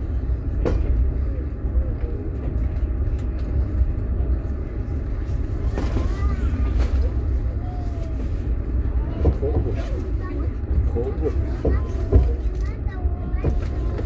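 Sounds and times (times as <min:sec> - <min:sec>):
train rumbling: 0:00.0 - 0:14.0
faint voices: 0:00.2 - 0:14.0.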